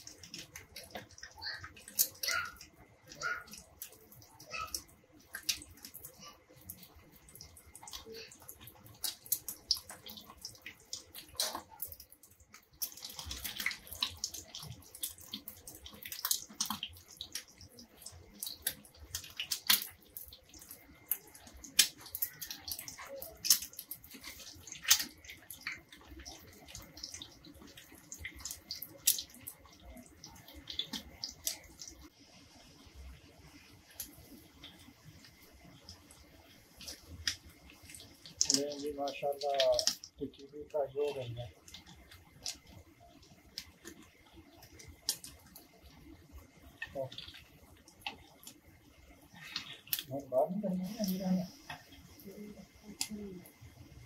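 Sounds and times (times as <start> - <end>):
patties sizzling in oil: 0.0 - 54.0
spitting oil crackling and popping: 0.0 - 54.0.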